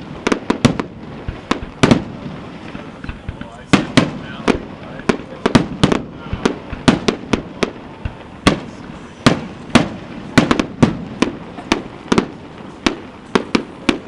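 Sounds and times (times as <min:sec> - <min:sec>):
fireworks bursting with echo: 0:00.0 - 0:14.0.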